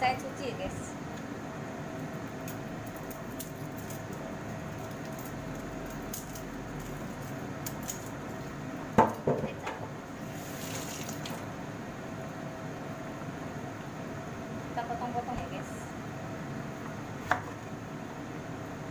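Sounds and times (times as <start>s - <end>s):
steady hum: 0.0s - 18.9s.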